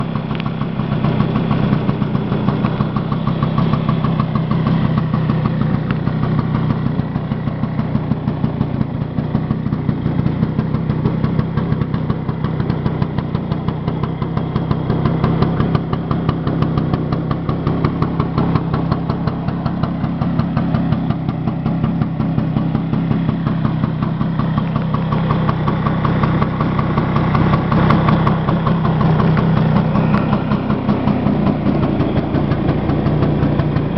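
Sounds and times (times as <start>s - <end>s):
scooter engine idling: 0.0s - 33.9s.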